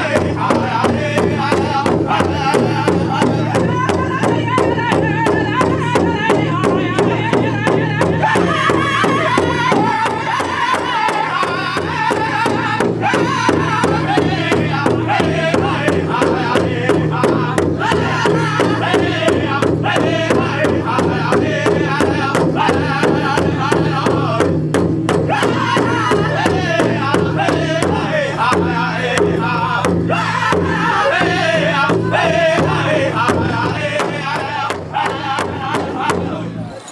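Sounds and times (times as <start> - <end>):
large hide drum beating: 0.0 - 36.8
men singing together: 0.0 - 36.8.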